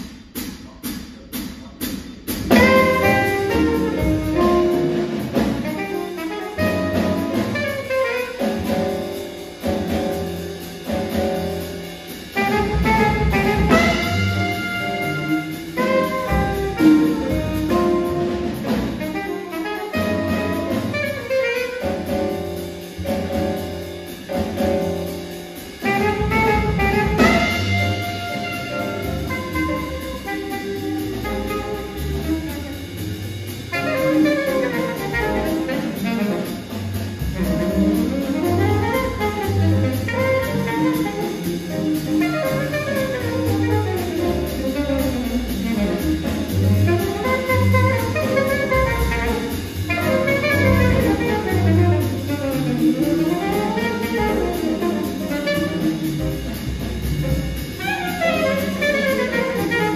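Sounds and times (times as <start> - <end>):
jazz quartet playing: 1.8 - 59.9
saxophone melody: 2.5 - 9.0, 12.4 - 22.6, 25.8 - 32.8, 33.7 - 56.3, 57.8 - 59.9.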